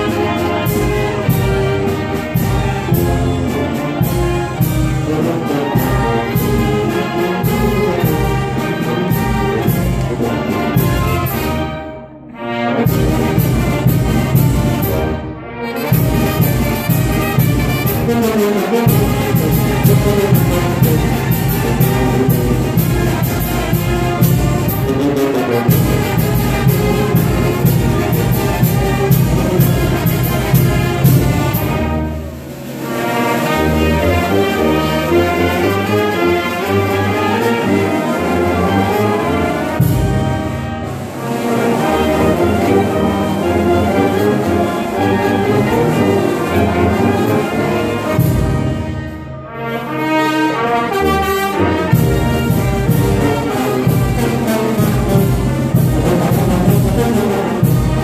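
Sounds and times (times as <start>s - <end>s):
brass band playing dance music: 0.0s - 58.0s.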